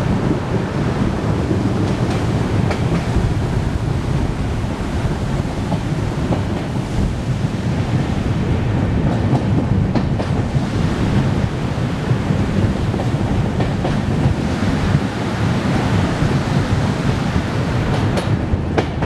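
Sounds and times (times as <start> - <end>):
train coaches rumbling: 0.0 - 19.0
train wheels clicking on rails: 0.0 - 19.0
wind on microphone: 0.0 - 19.0.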